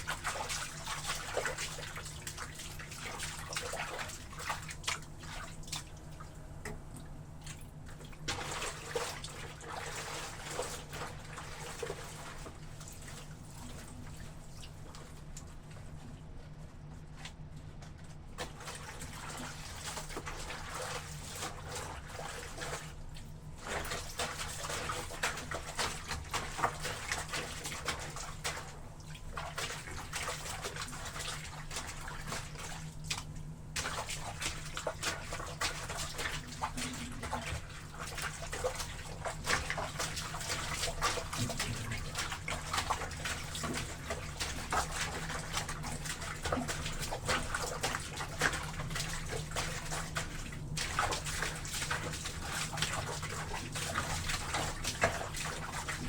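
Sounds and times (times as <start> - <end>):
water sloshing in a tub: 0.0 - 56.0.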